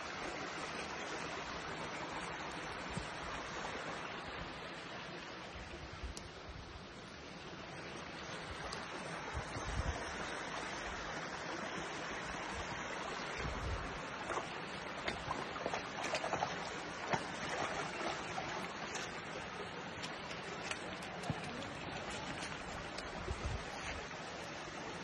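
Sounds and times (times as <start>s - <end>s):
brook running over rocks: 0.0s - 25.0s.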